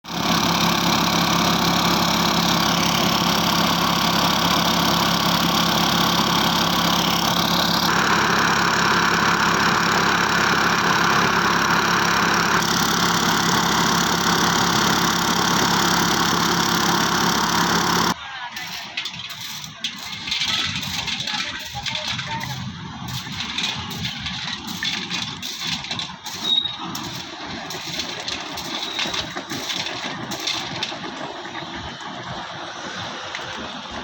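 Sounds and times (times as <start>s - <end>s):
small engine running: 0.1s - 34.0s.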